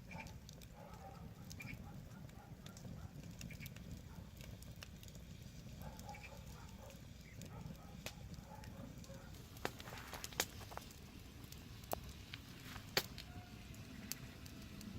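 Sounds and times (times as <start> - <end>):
low rumble of burning: 0.0 - 14.9
wood fire crackling: 0.0 - 14.9.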